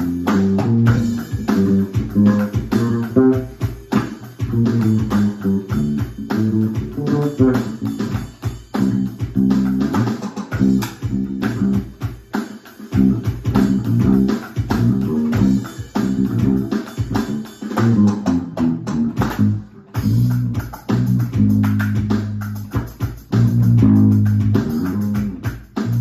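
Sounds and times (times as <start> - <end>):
funk bass line: 0.0 - 12.0, 12.9 - 26.0
drum kit: 0.0 - 26.0.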